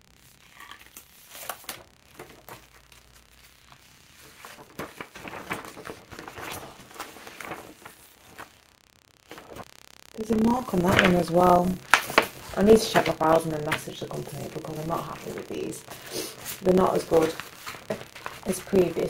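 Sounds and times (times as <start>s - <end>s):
wrapping paper rustling: 0.1s - 9.6s, 10.2s - 19.0s.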